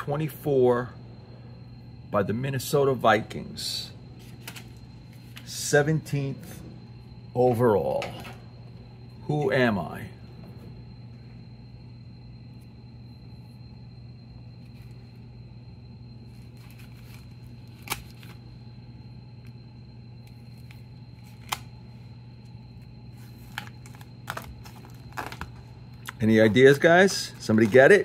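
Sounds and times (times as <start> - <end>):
low hum: 0.8 - 26.4.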